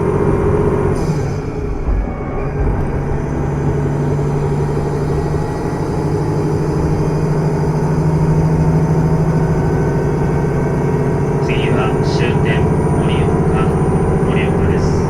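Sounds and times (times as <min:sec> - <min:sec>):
diesel engine hum: 0:00.0 - 0:15.0
wheels rumbling on track: 0:00.0 - 0:15.0.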